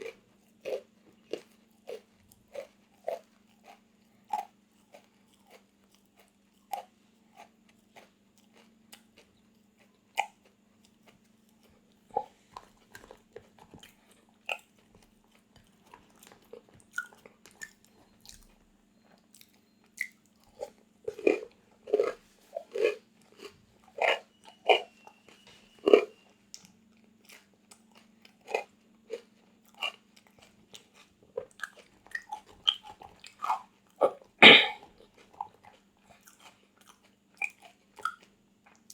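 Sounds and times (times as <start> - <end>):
crunching snack chews: 0.0 - 38.9.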